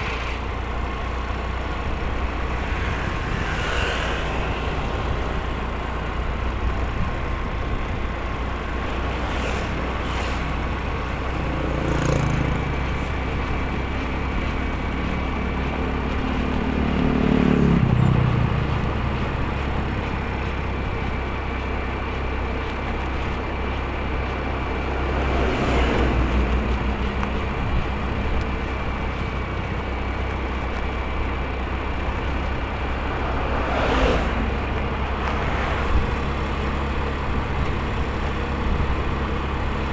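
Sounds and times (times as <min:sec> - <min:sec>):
road and wind rumble: 0:00.0 - 0:39.9
vehicles passing: 0:00.0 - 0:39.9.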